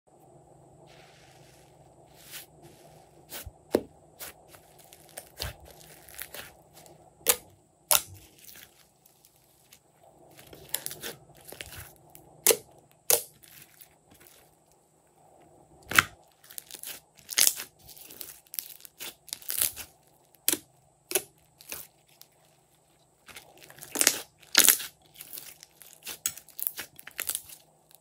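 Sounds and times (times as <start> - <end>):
crinkling and crackling: 0.8 - 28.0.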